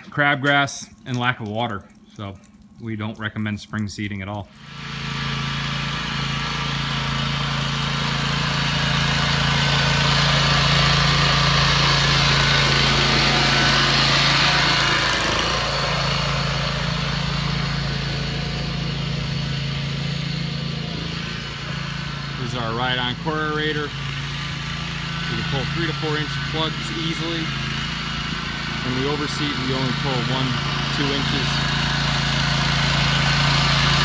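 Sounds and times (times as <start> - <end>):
small gasoline engine running: 4.4 - 34.0.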